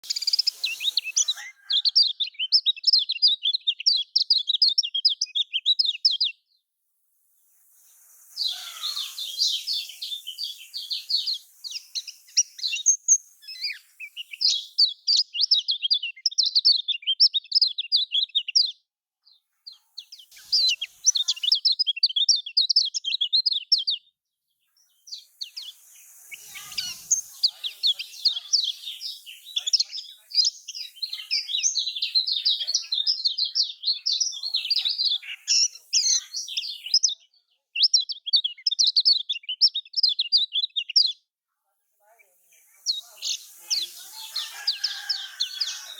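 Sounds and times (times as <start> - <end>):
bird twittering song: 0.0 - 6.5, 7.6 - 41.3, 42.2 - 45.9.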